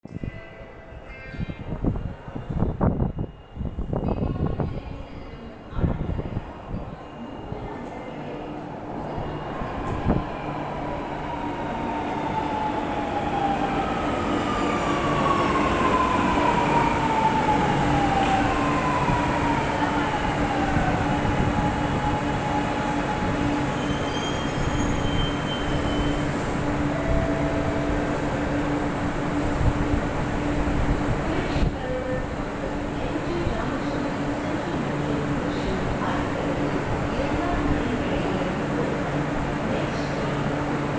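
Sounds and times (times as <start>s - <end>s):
train running noise and hum: 0.1s - 40.9s.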